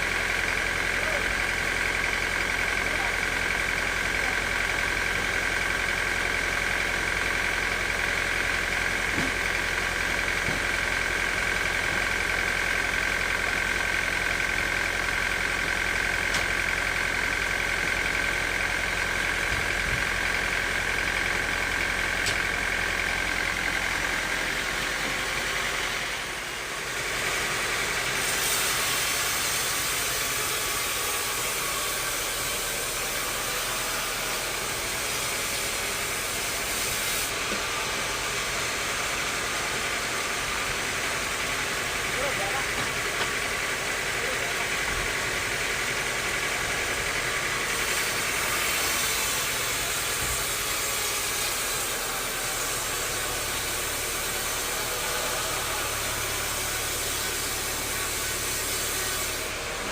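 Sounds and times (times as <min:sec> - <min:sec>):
sawmill machinery whine: 0:00.0 - 0:59.9.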